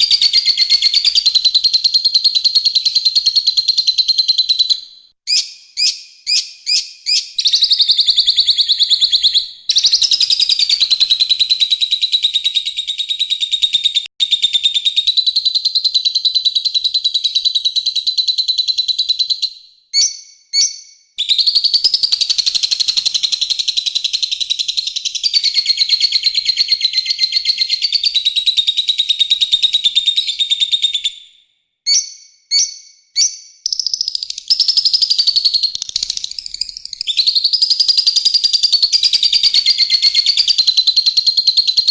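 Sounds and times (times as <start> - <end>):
bird chirps: 0.0 - 41.9.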